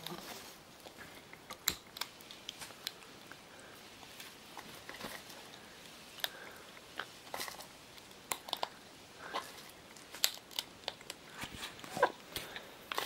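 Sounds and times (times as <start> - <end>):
parrot chewing and biting: 0.0 - 13.0.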